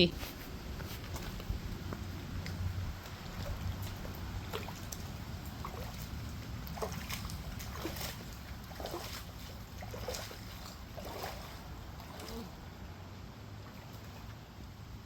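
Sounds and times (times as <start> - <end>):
steady low rumble: 0.0 - 15.0
shallow water sloshing: 0.3 - 13.0.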